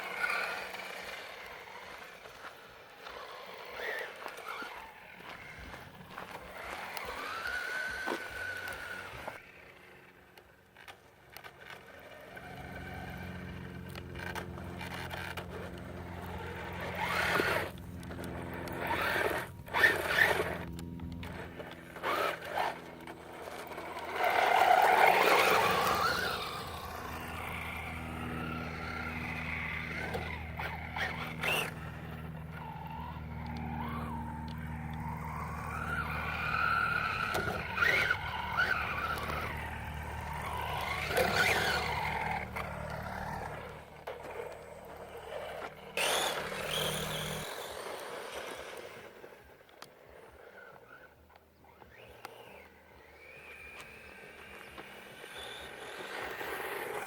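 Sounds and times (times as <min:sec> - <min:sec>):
electric motor whining: 0:00.0 - 0:10.1, 0:11.4 - 0:57.0.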